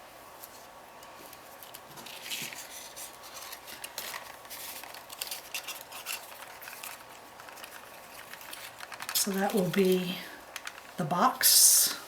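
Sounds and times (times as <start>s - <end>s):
cardstock rustling and tapping: 1.3s - 11.0s.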